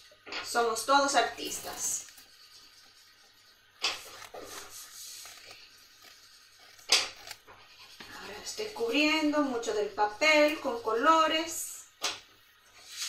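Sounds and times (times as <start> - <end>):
crayons rubbing on paper: 1.0 - 11.8.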